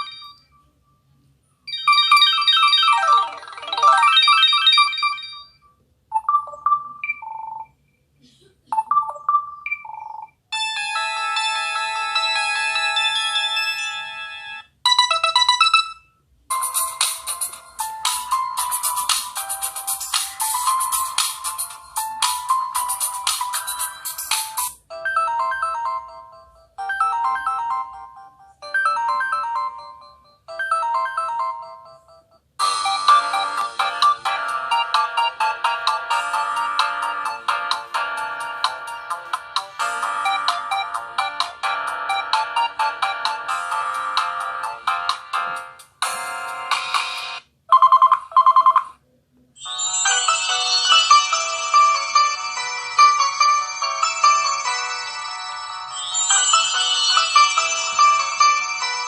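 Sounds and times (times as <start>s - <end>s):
phone ringtones: 0.0s - 0.7s, 1.7s - 7.8s, 8.8s - 39.2s, 47.7s - 49.0s, 49.6s - 59.0s.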